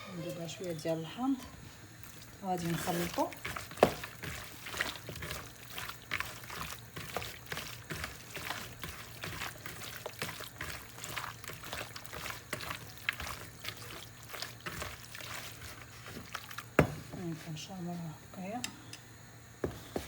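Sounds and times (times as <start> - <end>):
wet squelching of marinade: 0.2 - 17.7.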